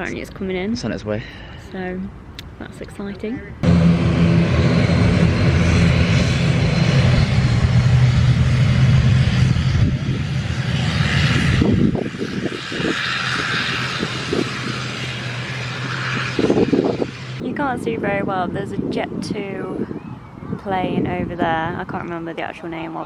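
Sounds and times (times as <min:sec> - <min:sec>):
airliner engines roaring: 0:00.0 - 0:23.0.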